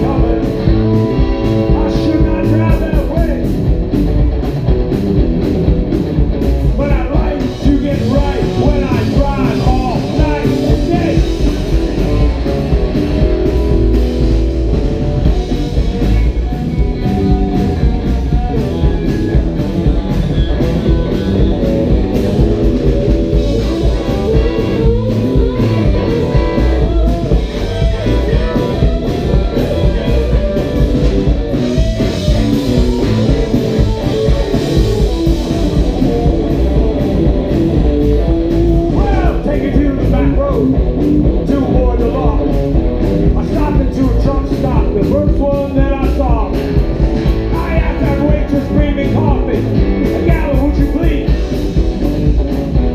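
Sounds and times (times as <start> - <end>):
drum kit: 0.0 - 52.9
electric bass: 0.0 - 52.9
electric guitar: 0.0 - 52.9.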